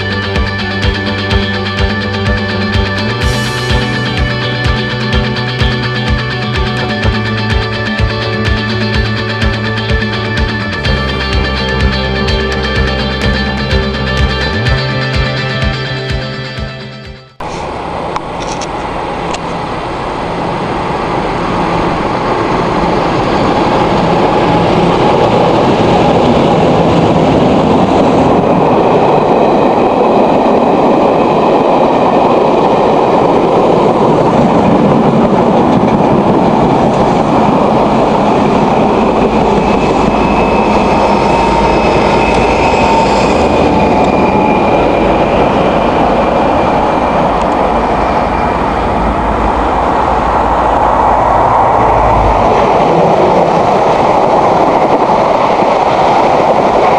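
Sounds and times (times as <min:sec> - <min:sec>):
diesel train running on rails: 0:00.0 - 0:56.9.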